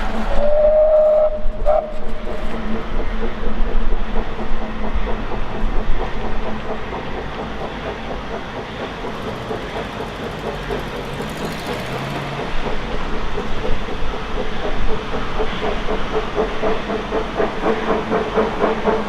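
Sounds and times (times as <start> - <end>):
steam train clattering: 0.0 - 19.0.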